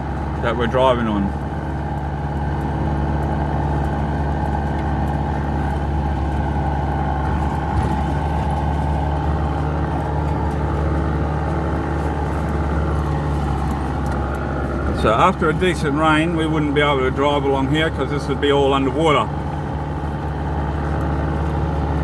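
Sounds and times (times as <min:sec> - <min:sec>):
off-road vehicle engine droning: 0:00.0 - 0:22.0.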